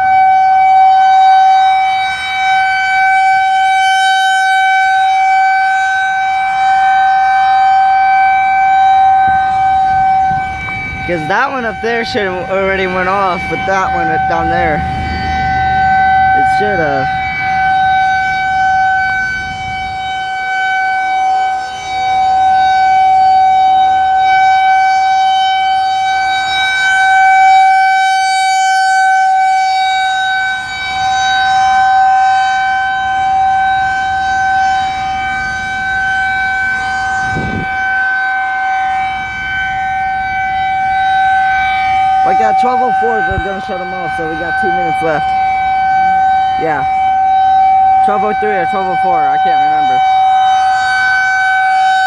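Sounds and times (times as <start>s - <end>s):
warning siren steady tone: 0.0s - 52.0s.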